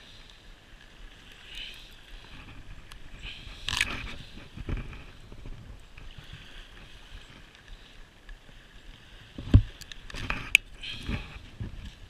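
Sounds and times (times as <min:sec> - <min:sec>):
small surf hissing: 0:00.0 - 0:11.5
wind rumbling on microphone: 0:01.1 - 0:07.8, 0:08.4 - 0:12.0.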